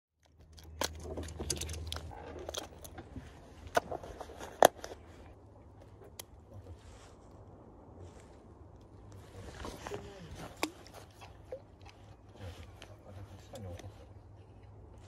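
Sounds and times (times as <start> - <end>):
low steady hum: 0.2 - 15.0.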